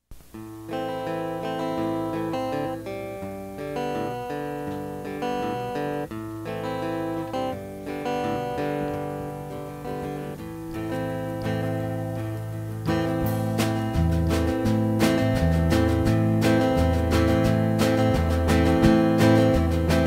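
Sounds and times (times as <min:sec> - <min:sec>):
acoustic guitar strumming: 0:00.2 - 0:20.0.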